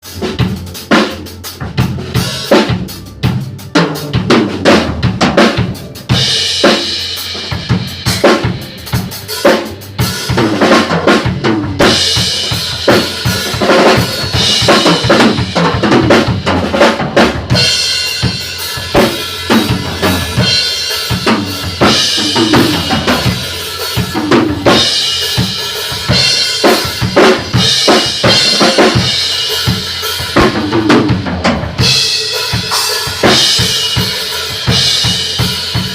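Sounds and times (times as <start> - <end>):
bass drum and snare hits: 0.1 - 35.9.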